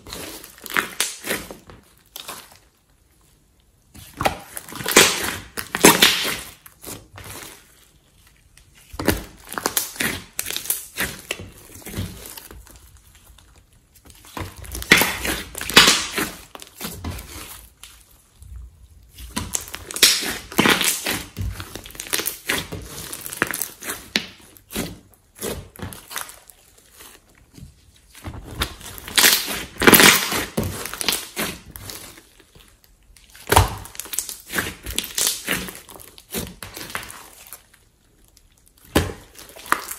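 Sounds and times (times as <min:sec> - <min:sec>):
slime squished by hand crackling: 0:03.9 - 0:18.3, 0:19.1 - 0:27.3, 0:28.0 - 0:39.9.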